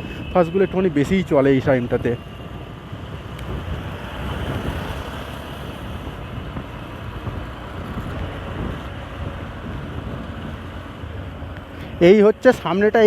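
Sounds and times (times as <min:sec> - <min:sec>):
motorcycle road noise: 0:00.0 - 0:13.0
surrounding traffic vehicles: 0:00.0 - 0:13.0
wind rushing on microphone: 0:00.0 - 0:13.0.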